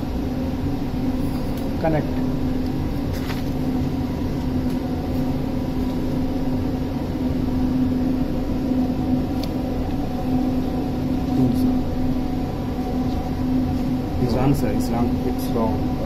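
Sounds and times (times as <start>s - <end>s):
ship machinery hum: 0.0s - 16.0s.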